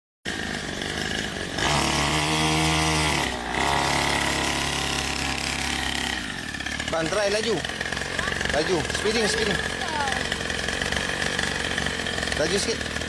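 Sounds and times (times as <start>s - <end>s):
two-stroke dirt bike engine revving: 0.3s - 13.0s.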